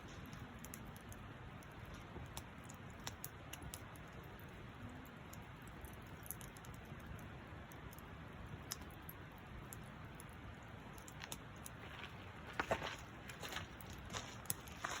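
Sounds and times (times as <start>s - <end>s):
campfire crackling: 0.0s - 15.0s
low steady hiss: 0.0s - 15.0s.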